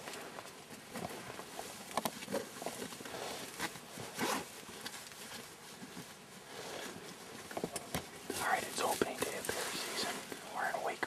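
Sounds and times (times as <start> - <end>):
rustling and scuffing: 0.0 - 10.4.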